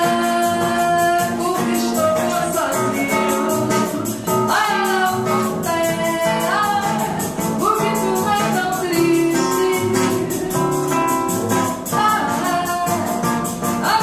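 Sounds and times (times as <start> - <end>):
plucked acoustic guitar chords: 0.0 - 14.0
shaker beat: 0.0 - 14.0
woman singing: 0.0 - 14.0.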